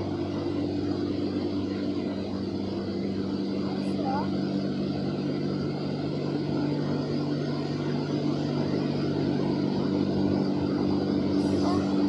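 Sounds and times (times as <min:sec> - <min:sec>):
motor hum: 0:00.0 - 0:12.0.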